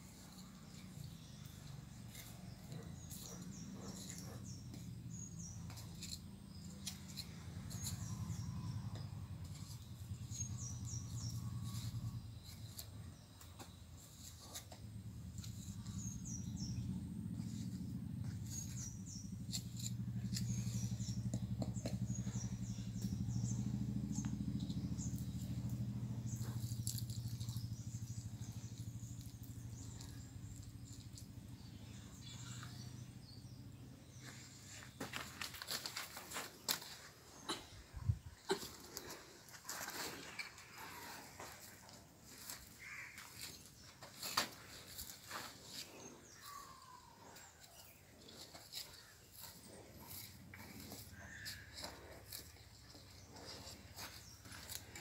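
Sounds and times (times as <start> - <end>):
hands working loose soil: 0.0 - 55.0
small birds chirping: 0.0 - 55.0
steady low hum: 0.0 - 55.0.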